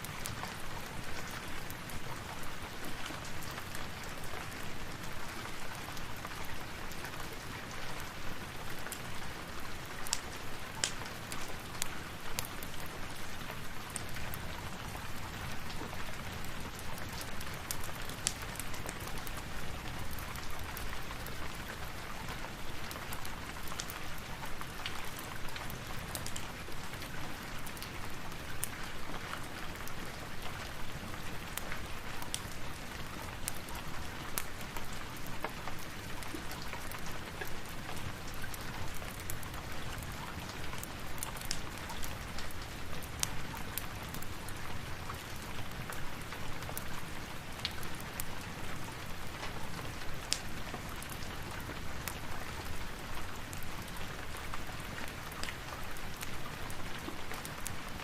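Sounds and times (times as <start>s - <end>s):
rain falling: 0.0s - 58.0s
raindrops ticking on surface: 0.0s - 58.0s.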